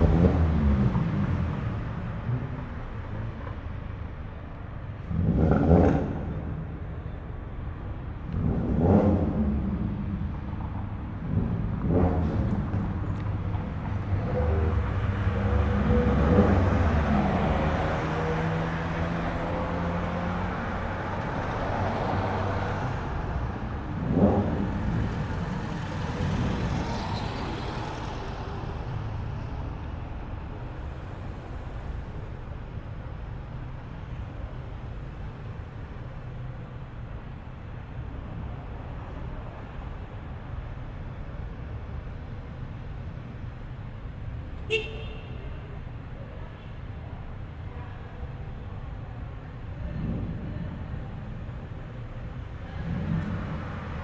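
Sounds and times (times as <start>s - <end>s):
cars rolling by slowly: 0.0s - 54.0s.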